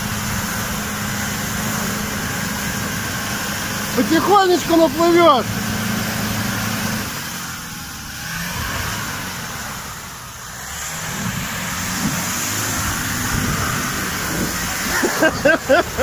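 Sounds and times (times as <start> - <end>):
truck engine under load: 0.0 - 16.0
water splashing around wheels: 0.0 - 16.0.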